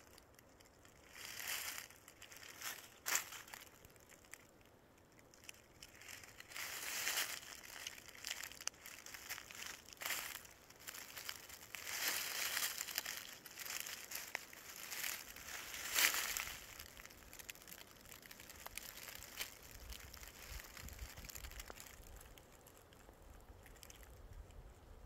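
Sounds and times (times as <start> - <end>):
footsteps on dry leaves: 0.0 - 4.6, 5.2 - 22.4.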